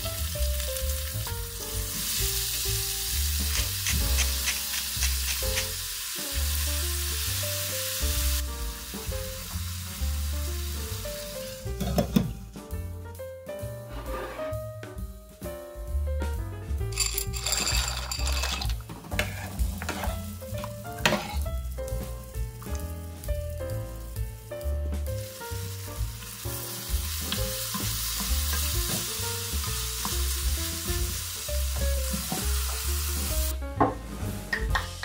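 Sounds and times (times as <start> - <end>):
vegetables sizzling in a frying pan: 0.0 - 12.1, 16.9 - 33.6
background music with bass: 0.0 - 35.0.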